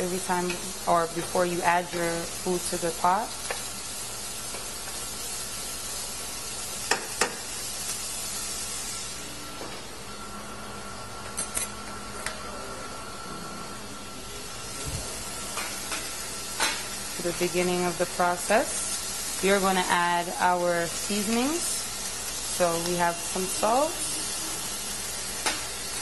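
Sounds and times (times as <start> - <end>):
vegetables sizzling in oil: 0.0 - 9.5, 14.6 - 26.0.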